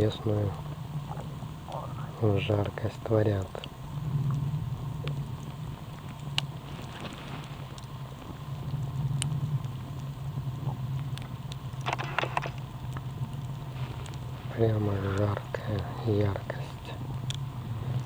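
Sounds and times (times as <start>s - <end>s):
campfire crackling and popping: 0.0s - 18.0s
steady low rumble: 0.0s - 18.0s.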